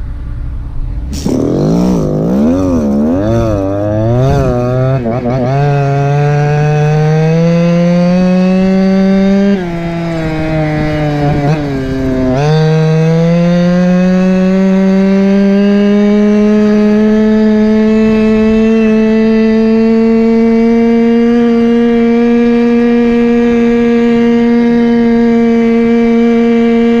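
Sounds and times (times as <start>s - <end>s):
two-stroke scooter engine buzzing: 1.0s - 27.0s.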